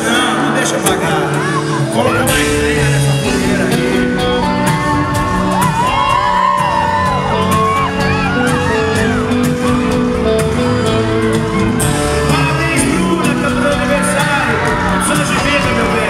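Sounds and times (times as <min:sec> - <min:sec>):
live band music: 0:00.0 - 0:16.0
audience whooping and screaming: 0:00.1 - 0:16.0.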